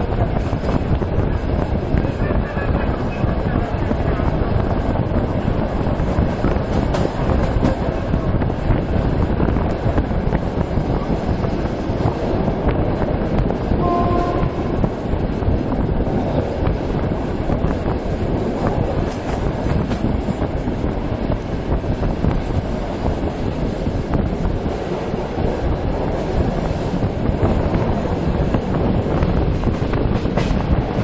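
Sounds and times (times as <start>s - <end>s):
train wheels rumbling: 0.0s - 31.0s
wind on microphone: 0.0s - 31.0s.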